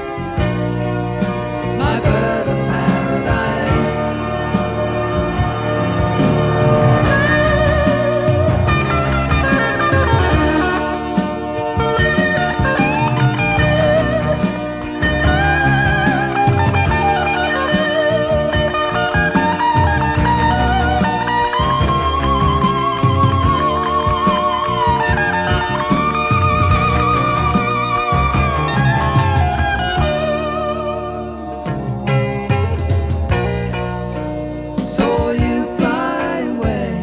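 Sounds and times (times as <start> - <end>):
bass: 0.0 - 37.0
drums: 0.0 - 37.0
electric guitar solo: 3.1 - 34.1.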